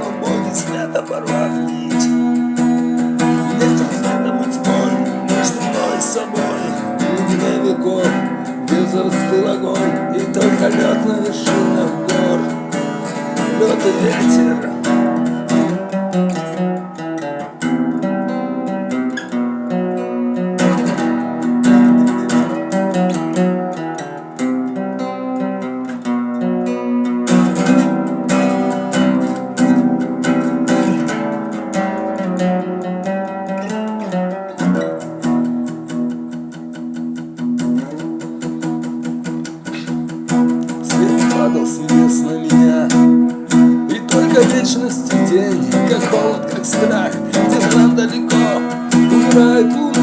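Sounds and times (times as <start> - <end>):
acoustic guitar strumming chords: 0.0 - 50.0.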